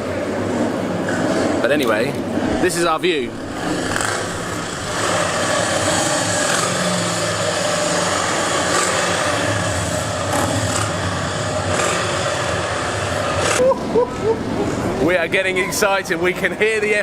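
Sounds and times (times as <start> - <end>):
motorcycle engines running: 0.0 - 17.0
outdoor noise: 0.0 - 17.0.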